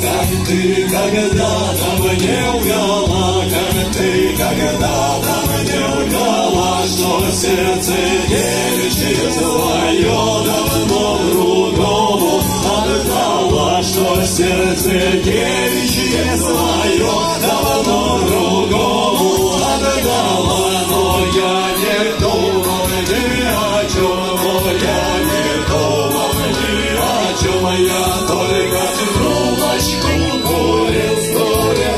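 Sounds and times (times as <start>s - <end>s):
choir singing with instruments: 0.0s - 31.9s.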